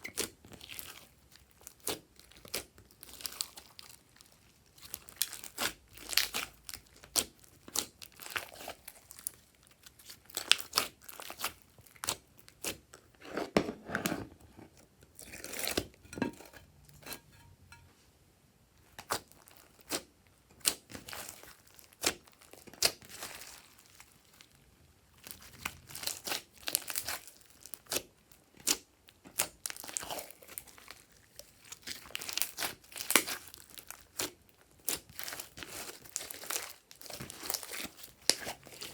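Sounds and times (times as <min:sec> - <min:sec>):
slime crackling and popping: 0:00.0 - 0:12.9, 0:18.8 - 0:24.5, 0:25.2 - 0:38.9.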